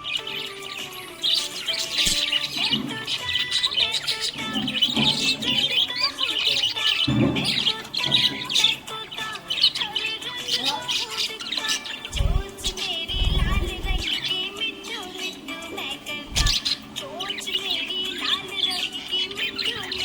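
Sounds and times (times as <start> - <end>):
background music: 0.0 - 20.0
parrots chirping and twittering: 0.0 - 20.0.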